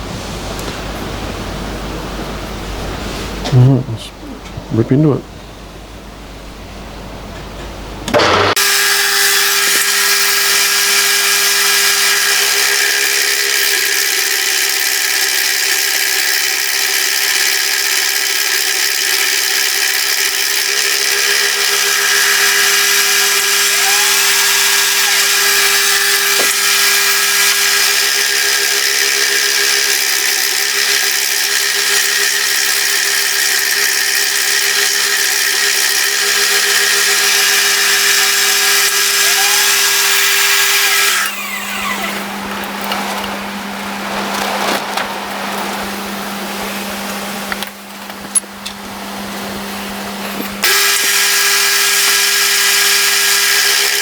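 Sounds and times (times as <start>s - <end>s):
milling machine cutting: 8.1s - 54.0s.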